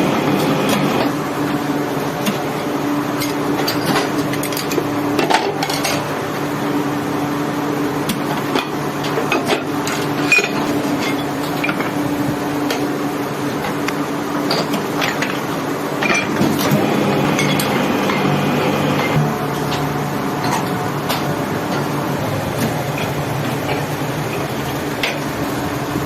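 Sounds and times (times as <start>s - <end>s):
factory machinery humming: 0.0s - 3.5s, 6.1s - 26.0s.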